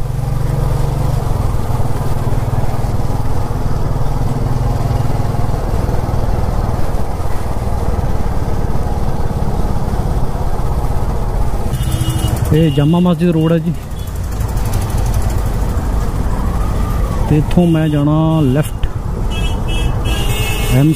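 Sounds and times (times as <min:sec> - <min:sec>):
motorcycle engine running: 0:00.0 - 0:17.3
wind and road noise: 0:00.0 - 0:20.9.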